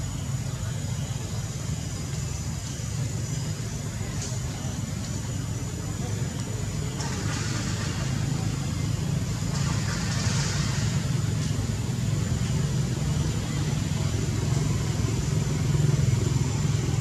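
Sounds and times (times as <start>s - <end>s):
even hiss: 0.0s - 17.0s.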